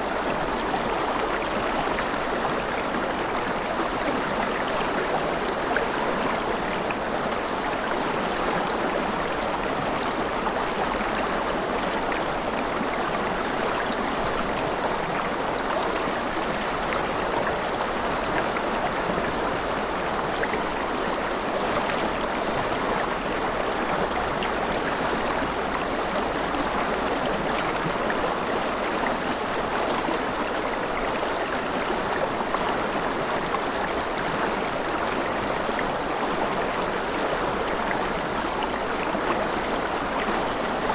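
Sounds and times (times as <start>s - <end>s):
river water flowing and splashing: 0.0s - 40.9s.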